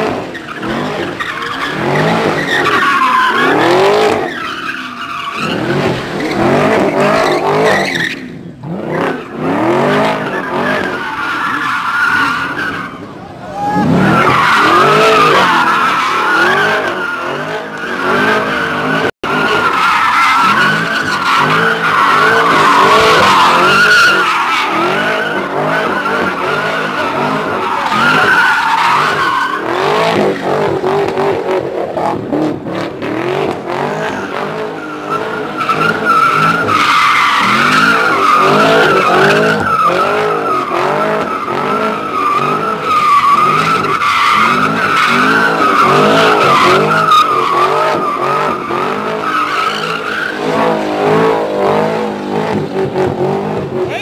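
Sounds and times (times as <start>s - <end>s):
car engine revving: 0.0s - 54.0s
tires squealing: 0.0s - 54.0s.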